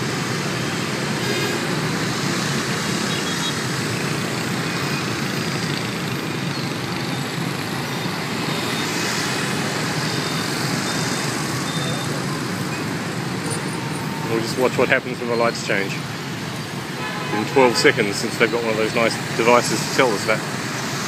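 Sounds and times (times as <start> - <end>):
bus passing: 0.0 - 21.0
cars passing: 0.0 - 21.0
motorbikes passing: 0.0 - 21.0.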